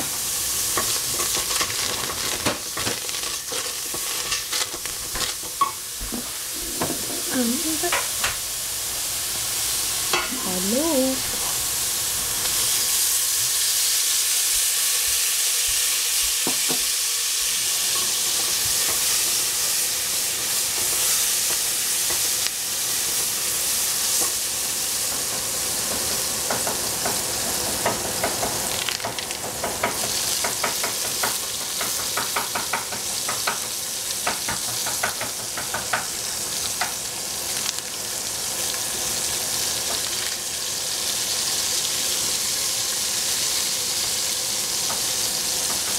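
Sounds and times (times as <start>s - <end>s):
vegetables sizzling in a pan: 0.0s - 45.9s.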